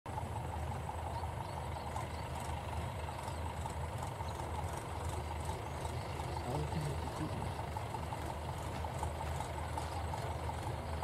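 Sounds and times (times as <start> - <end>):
tractor diesel engine chugging: 0.1 - 11.0.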